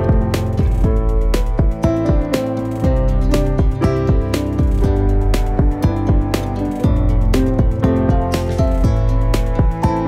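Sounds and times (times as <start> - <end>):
bass line: 0.0 - 10.0
plucked-string notes: 0.0 - 10.0.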